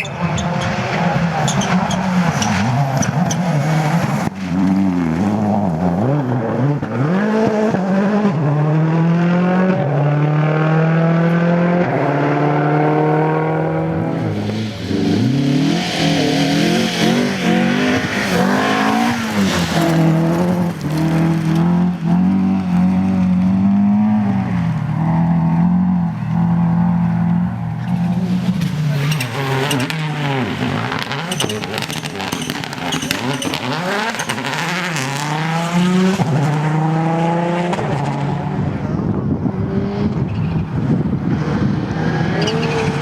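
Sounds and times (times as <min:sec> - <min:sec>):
rally car engine revving: 0:00.0 - 0:43.0.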